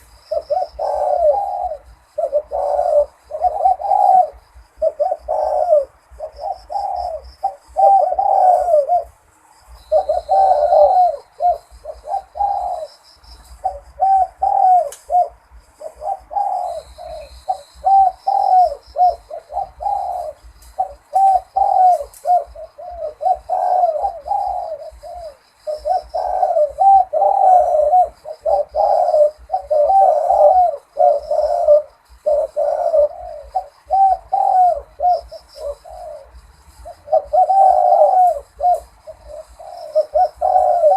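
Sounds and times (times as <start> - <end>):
dove cooing: 0.0 - 40.9
faint high chirping: 0.0 - 40.9.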